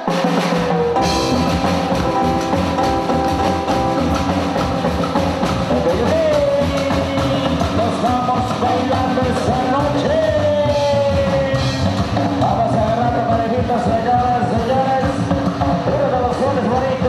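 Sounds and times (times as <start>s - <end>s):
drum kit and bass beat: 0.0s - 17.0s
bending lead guitar melody: 0.5s - 17.0s.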